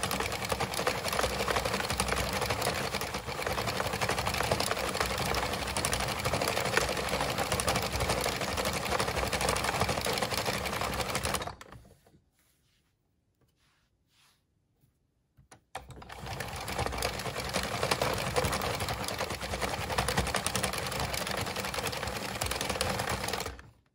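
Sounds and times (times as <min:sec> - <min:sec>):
knitting machine needles clattering: 0:00.0 - 0:11.8, 0:15.8 - 0:23.7.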